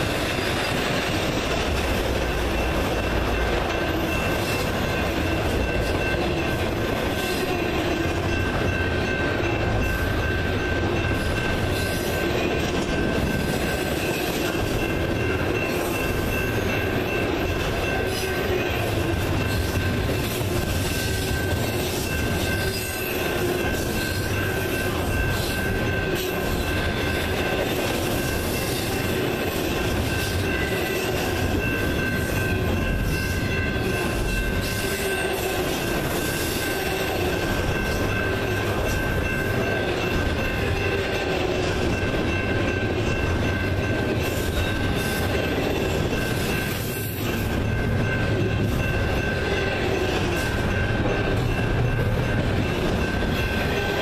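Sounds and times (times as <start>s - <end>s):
rumble of wheels on rail: 0.0s - 54.0s.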